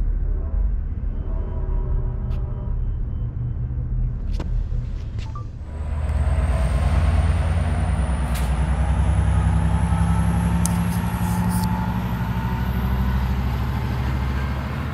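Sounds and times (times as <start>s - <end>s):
diesel locomotive engine rumbling: 0.0s - 14.9s.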